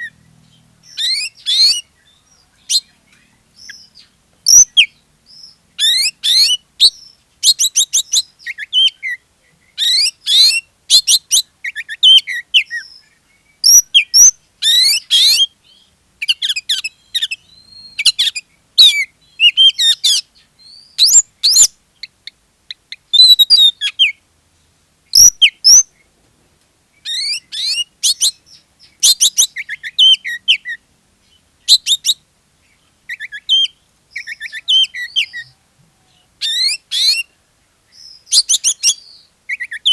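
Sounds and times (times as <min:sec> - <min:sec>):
bird singing: 0:00.0 - 0:24.2, 0:25.1 - 0:26.1, 0:27.0 - 0:39.9.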